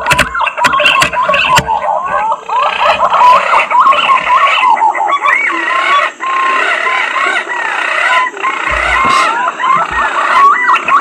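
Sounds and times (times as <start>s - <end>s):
pigeons whistling: 0.0s - 11.0s.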